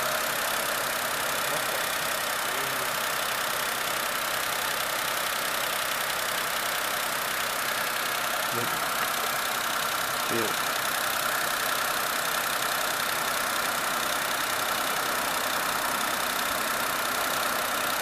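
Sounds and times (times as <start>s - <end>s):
car engine running steadily: 0.0s - 18.0s.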